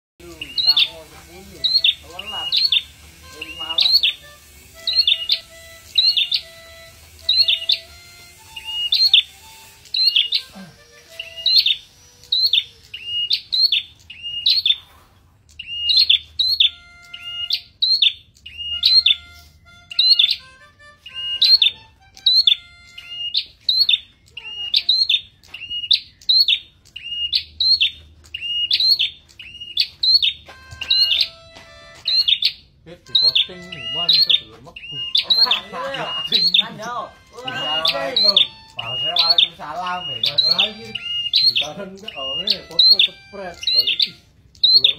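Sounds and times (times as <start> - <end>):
bird singing high rising call: 0.2 - 31.4, 32.0 - 44.9.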